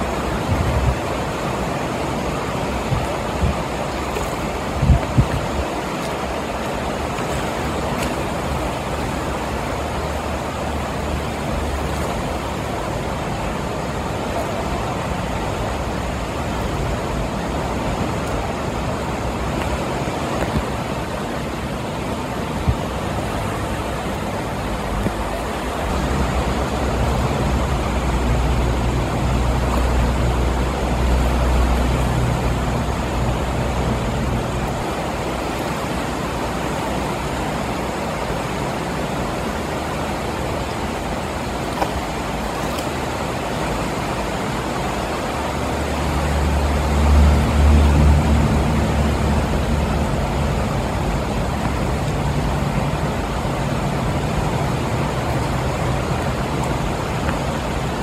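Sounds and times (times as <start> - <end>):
deep river rumble: 0.0 - 58.0
fast-flowing river rushing: 0.0 - 58.0.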